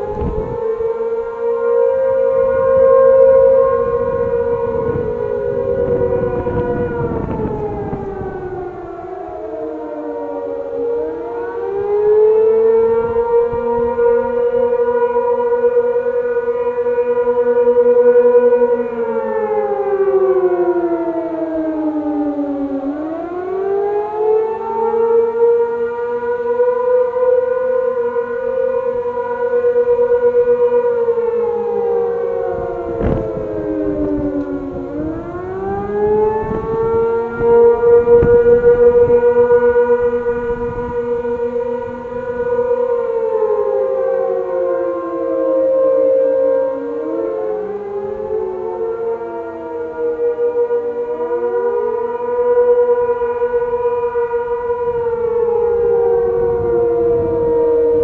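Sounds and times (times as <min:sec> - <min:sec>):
warning sirens wailing: 0:00.0 - 0:58.0.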